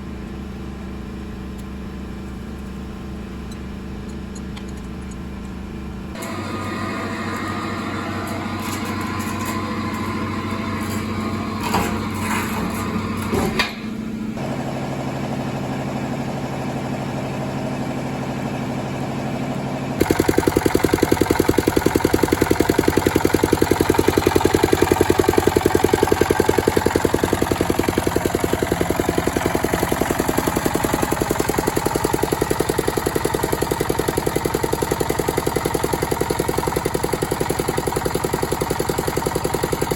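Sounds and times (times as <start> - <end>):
diesel engine knocking: 6.1 - 39.9.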